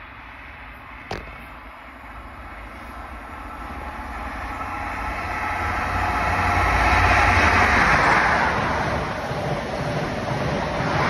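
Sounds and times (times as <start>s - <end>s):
diesel train passing: 0.0s - 11.0s.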